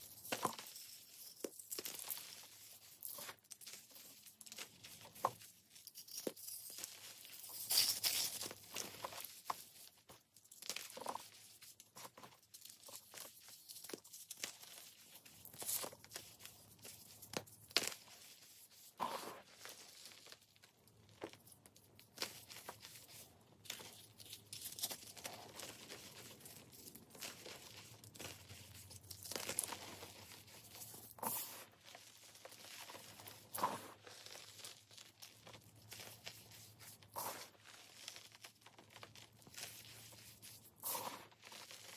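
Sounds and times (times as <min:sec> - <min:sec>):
chalk powder rustling: 0:00.0 - 0:20.6, 0:21.9 - 0:41.9
chalk blocks crunching in hands: 0:00.0 - 0:41.9.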